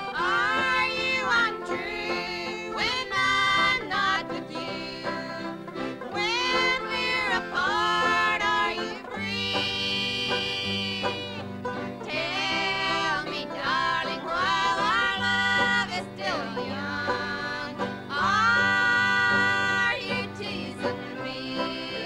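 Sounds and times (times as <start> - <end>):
person singing: 0.0 - 5.5, 6.1 - 11.4, 12.1 - 22.0
country dance band with accordion: 0.0 - 22.0.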